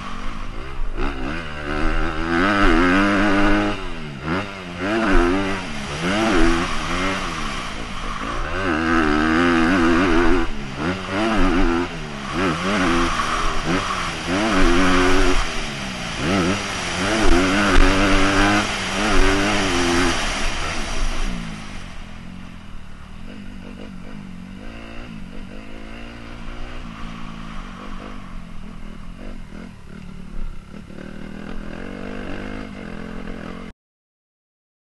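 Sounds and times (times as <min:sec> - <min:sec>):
dirt bike engine revving: 0:00.0 - 0:33.7.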